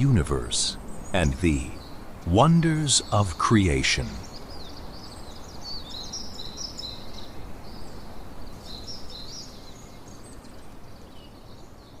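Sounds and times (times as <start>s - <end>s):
low outdoor background hum: 0.0s - 12.0s
small birds chirping: 0.0s - 12.0s.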